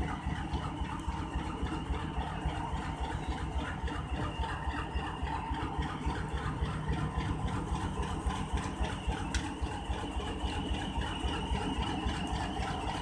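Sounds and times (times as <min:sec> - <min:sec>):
locomotive diesel engine throbbing: 0:00.0 - 0:13.0.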